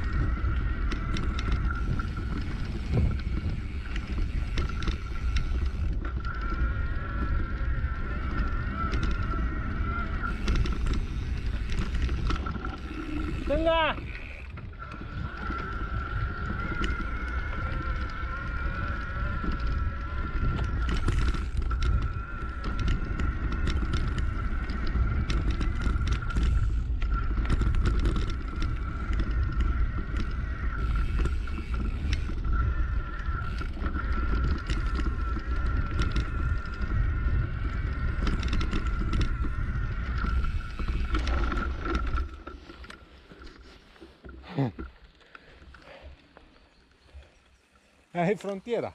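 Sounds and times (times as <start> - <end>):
wind rumble on microphone: 0.0 - 43.5
bike rattling over bumps: 0.0 - 48.9.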